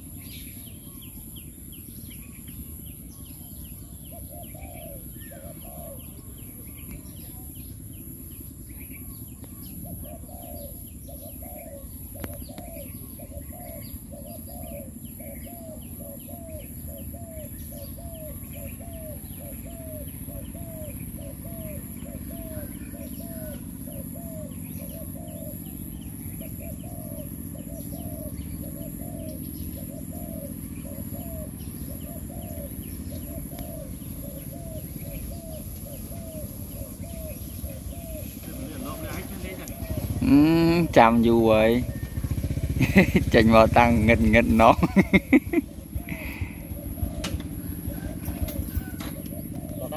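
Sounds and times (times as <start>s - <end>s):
small birds chirping: 0.0s - 49.9s
dove cooing: 2.7s - 49.9s.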